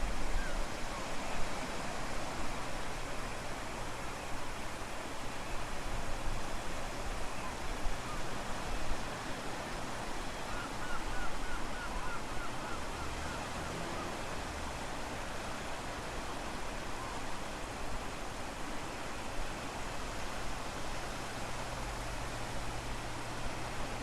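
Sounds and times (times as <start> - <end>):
ocean surf: 0.0 - 24.0.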